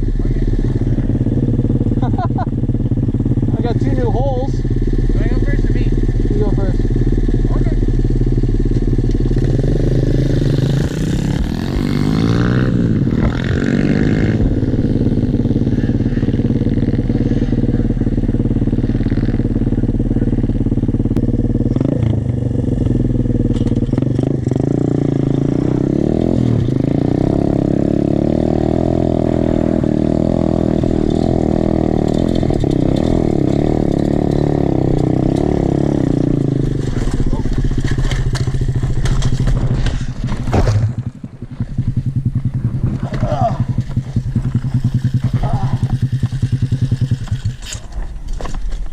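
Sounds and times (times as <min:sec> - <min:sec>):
small motorbike engine revving: 0:00.0 - 0:48.1.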